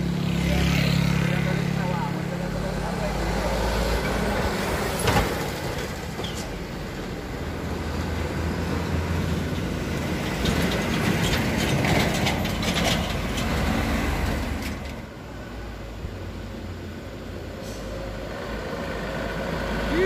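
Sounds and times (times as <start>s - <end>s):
approaching vehicle engines: 0.0s - 20.0s
truck engine and tyres passing: 0.0s - 20.0s.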